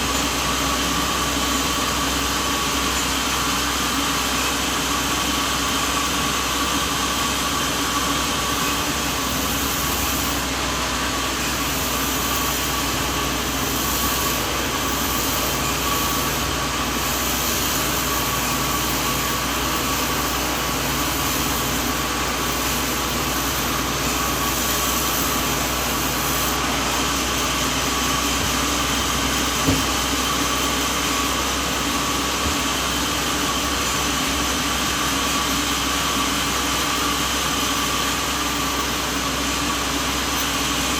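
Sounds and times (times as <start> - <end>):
sawmill machinery hum: 0.0 - 40.9.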